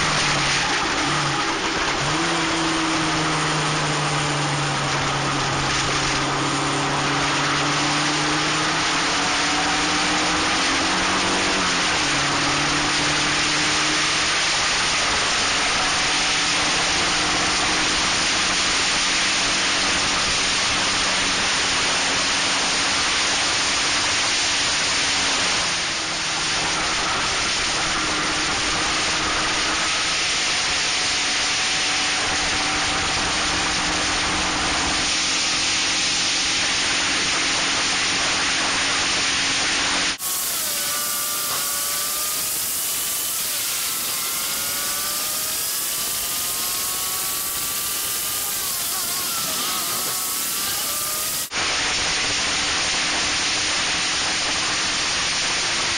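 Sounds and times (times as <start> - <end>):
racing car engine: 0.0 - 55.9.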